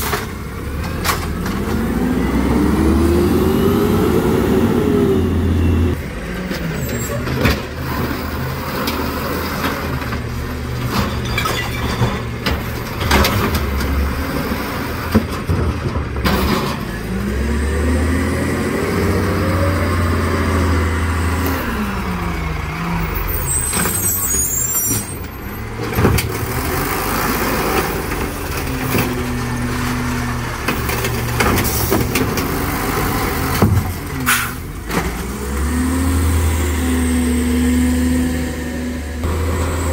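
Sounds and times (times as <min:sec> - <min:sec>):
truck engine revving: 0:00.0 - 0:11.0, 0:16.7 - 0:39.9.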